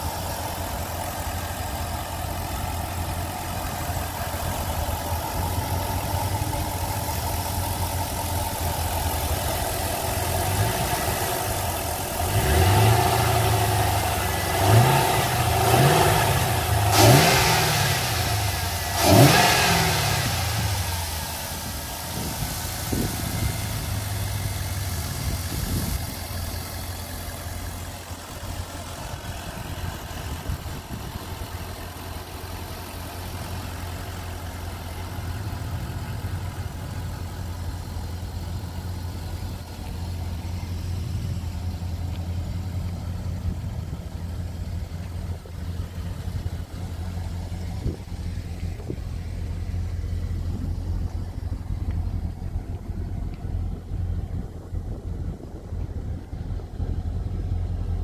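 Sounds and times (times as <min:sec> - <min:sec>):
car engine revving and idling: 0:00.0 - 0:58.0.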